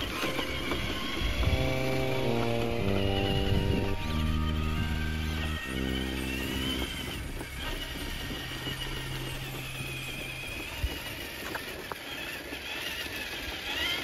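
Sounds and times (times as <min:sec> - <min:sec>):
electric motor and gear whine: 0:00.0 - 0:14.0.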